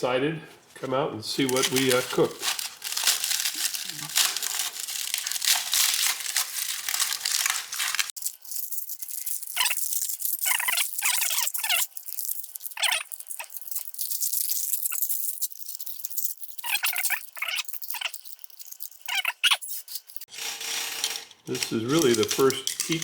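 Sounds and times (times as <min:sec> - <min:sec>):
short crackles and scrapes: 0:00.6 - 0:23.0
foil crinkling and tearing: 0:01.4 - 0:23.0.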